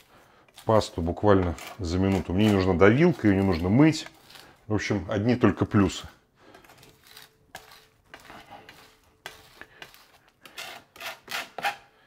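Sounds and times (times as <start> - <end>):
garlic grinding strokes: 0.0 - 5.0, 6.5 - 11.9.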